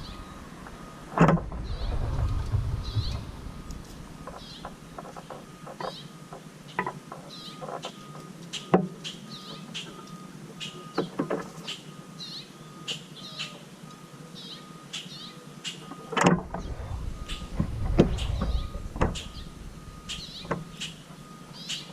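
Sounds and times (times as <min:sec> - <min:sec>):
small birds chirping: 0:01.6 - 0:13.6, 0:14.3 - 0:21.9.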